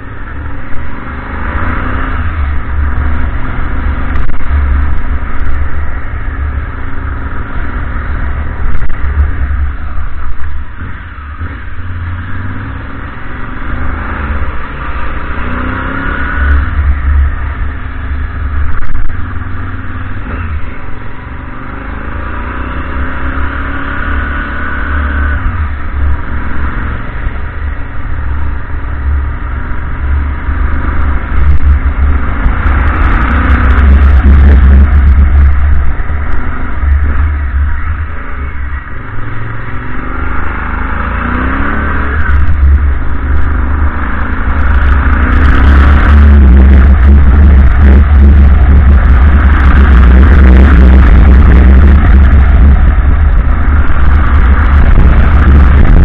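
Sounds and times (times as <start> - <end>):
motorcycle engine accelerating: 0.0 - 56.0
wind rumble on microphone: 0.0 - 56.0.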